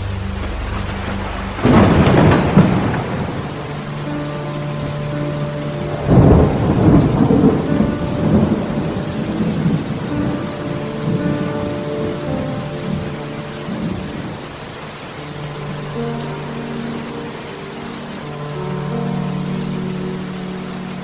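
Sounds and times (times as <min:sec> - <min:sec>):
rolling thunder rumble: 0:00.0 - 0:21.0
steady rain falling: 0:00.0 - 0:21.0.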